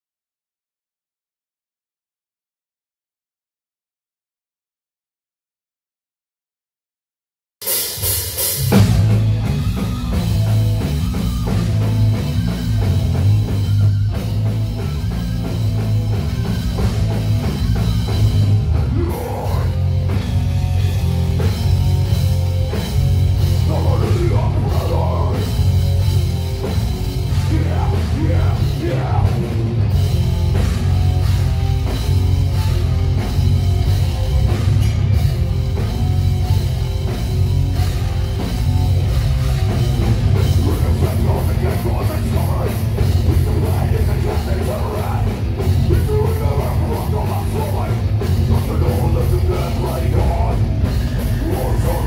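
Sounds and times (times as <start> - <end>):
bass guitar: 7.6 - 52.0
distorted guitar: 7.6 - 52.0
drum kit: 7.6 - 52.0.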